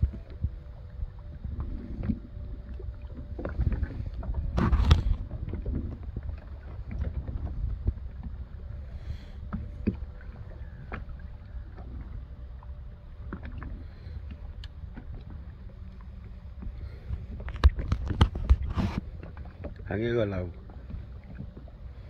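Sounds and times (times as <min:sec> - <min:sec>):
steady low rumble: 0:00.0 - 0:22.0
water lapping against boat hull: 0:00.0 - 0:22.0.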